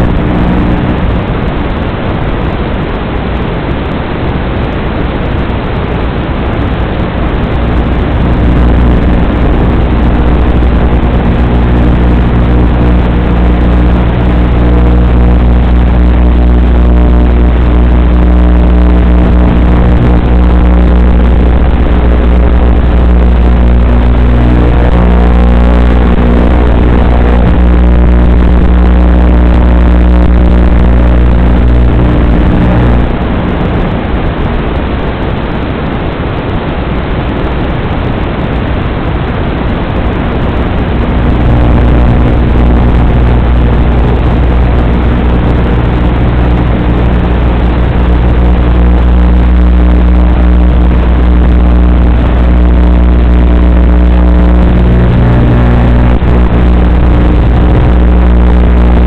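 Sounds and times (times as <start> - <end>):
electrical buzz of evenly spaced tones: 0.0 - 59.0
harsh static: 0.0 - 59.0.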